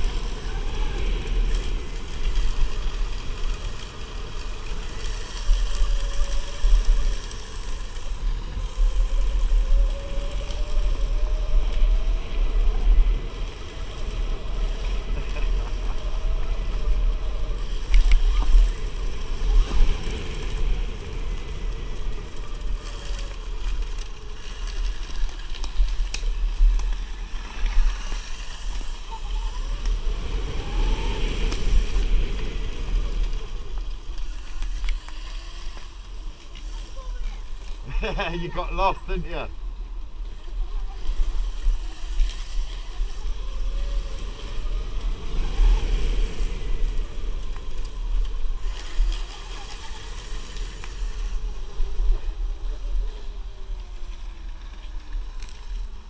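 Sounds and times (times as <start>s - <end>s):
wind rumble: 0.0s - 56.0s.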